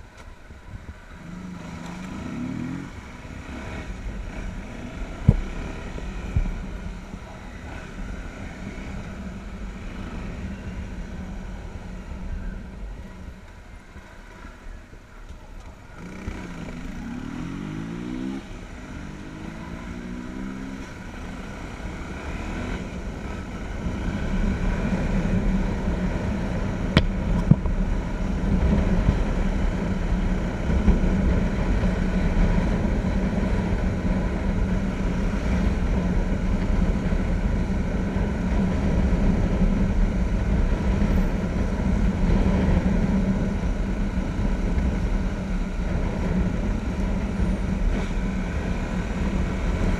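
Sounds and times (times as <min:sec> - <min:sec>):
wind rumble on microphone: 0:00.0 - 0:49.9
motorcycle engine accelerating: 0:00.8 - 0:14.8, 0:15.5 - 0:49.9.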